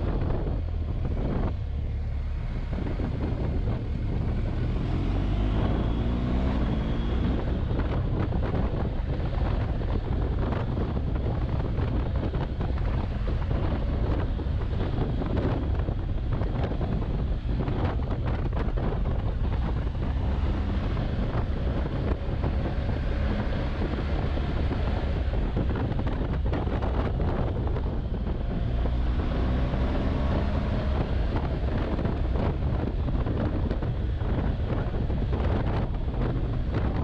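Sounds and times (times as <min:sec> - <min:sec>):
road noise: 0:00.0 - 0:37.0
wind buffeting microphone: 0:00.0 - 0:37.0.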